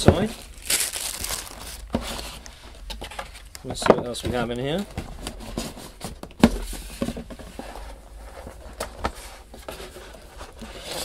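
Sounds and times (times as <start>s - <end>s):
cardboard flaps tapping and rustling: 0.0s - 11.0s.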